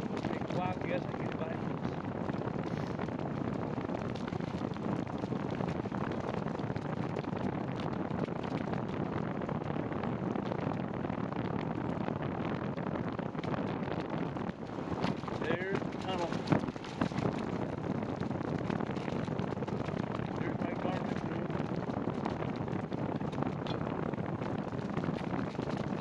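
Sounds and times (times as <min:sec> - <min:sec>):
wind and rain on microphone: 0:00.0 - 0:26.0.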